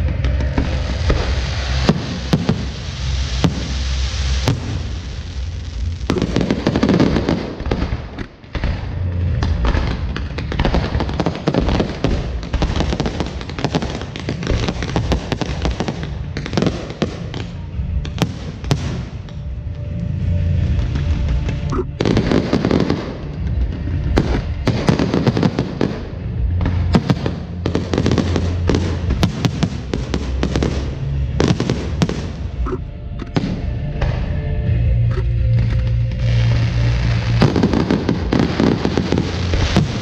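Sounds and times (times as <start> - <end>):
fireworks crackling: 0.0 - 32.6, 35.4 - 40.0
fireworks deep booms: 0.0 - 32.6, 33.3 - 34.9, 35.5 - 40.0.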